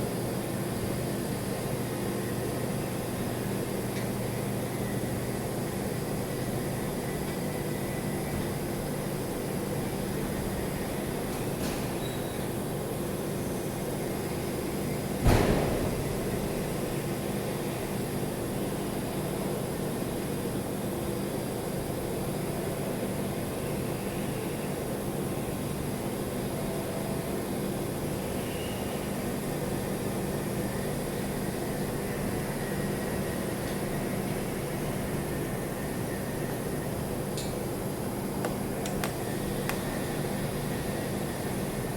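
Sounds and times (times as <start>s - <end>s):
welding equipment hum and hiss: 0.0s - 41.9s.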